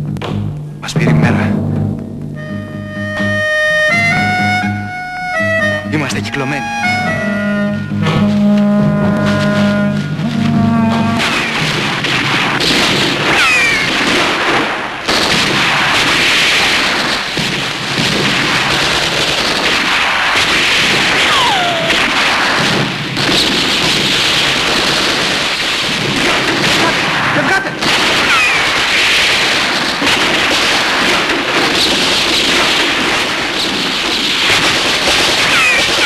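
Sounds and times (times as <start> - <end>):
continuous gunfire: 0.0 - 36.0.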